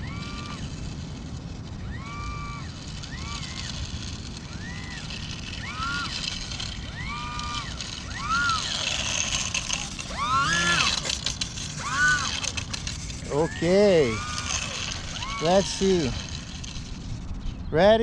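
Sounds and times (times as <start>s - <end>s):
model plane motor revving: 0.0s - 18.0s.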